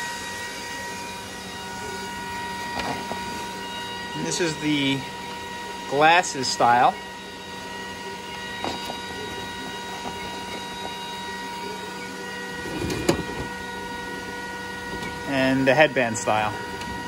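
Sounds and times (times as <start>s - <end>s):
machine humming with whining tones: 0.0s - 17.0s.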